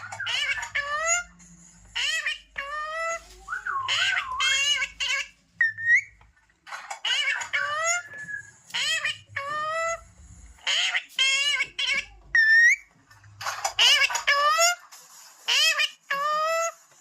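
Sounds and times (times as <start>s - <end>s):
parrot speech-like chatter: 0.0s - 6.0s, 6.9s - 8.1s, 8.7s - 12.9s, 13.7s - 14.8s, 15.5s - 16.8s.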